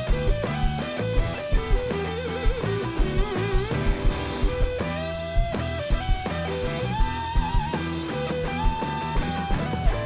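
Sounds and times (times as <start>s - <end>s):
bass guitar: 0.0s - 10.0s
drums: 0.0s - 10.0s
electric guitar solo: 0.0s - 10.0s.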